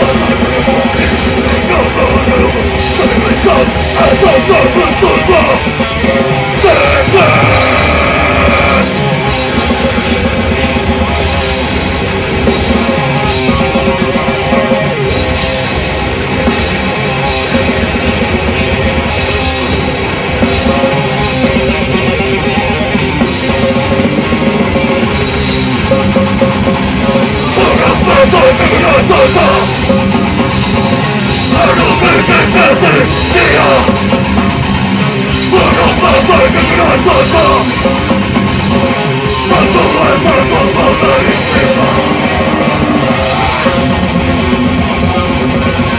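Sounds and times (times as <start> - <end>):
distorted guitars: 0.0 - 45.9
drum kit: 0.0 - 45.9.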